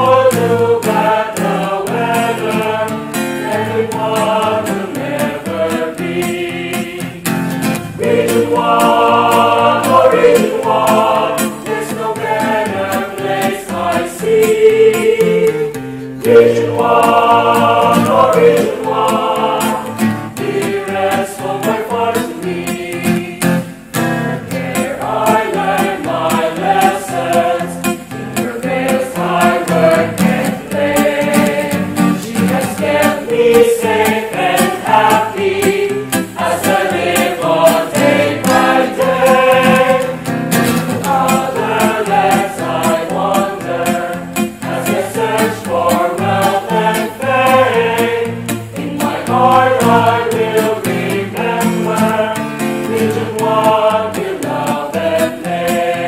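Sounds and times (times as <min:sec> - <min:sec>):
choir singing: 0:00.0 - 0:56.0
instrumental accompaniment: 0:00.0 - 0:56.0.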